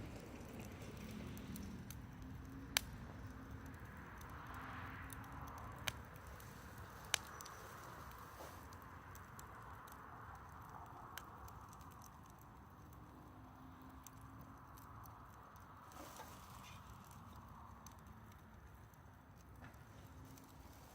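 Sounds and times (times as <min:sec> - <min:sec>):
burning wood popping: 0:00.0 - 0:20.9
wood fire hissing: 0:00.0 - 0:20.9.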